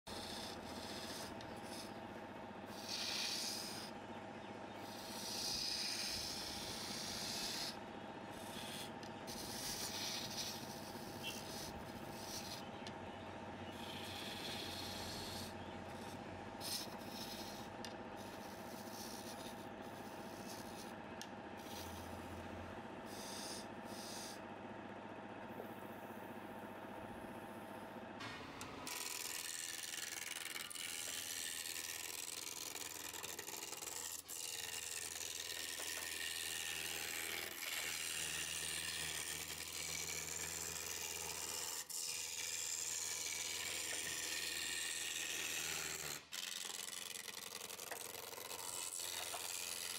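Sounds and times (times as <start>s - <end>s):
tool rasping against spinning wood: 0.1s - 21.0s, 21.6s - 22.5s, 28.8s - 49.9s
wood lathe motor hum: 0.1s - 24.5s, 25.5s - 49.9s.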